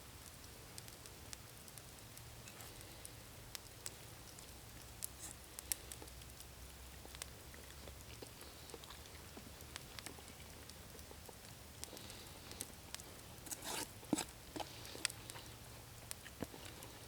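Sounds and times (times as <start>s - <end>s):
campfire crackling: 0.0s - 17.0s
low background hiss: 0.0s - 17.0s.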